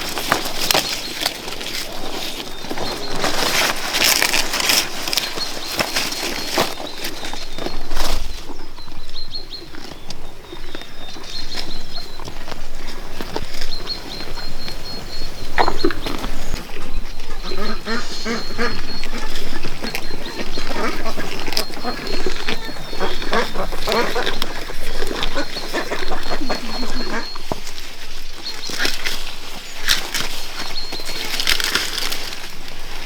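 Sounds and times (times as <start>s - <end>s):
poultry calling: 0.0s - 32.4s.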